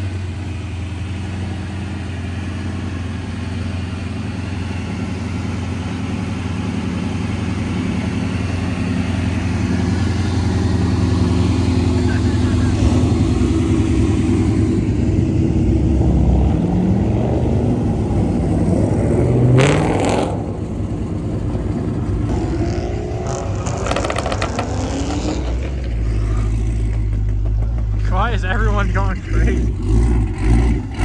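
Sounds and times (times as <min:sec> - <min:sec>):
car engines revving: 0:00.0 - 0:31.0
cars pulling away: 0:00.0 - 0:31.0.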